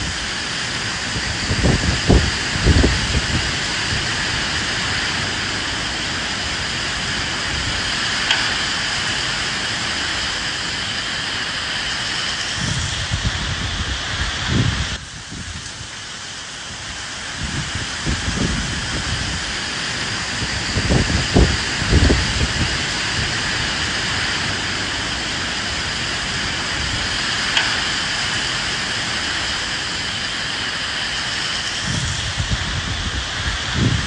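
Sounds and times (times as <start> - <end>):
steady rain falling: 0.0 - 34.0
wind gusts: 0.0 - 34.0.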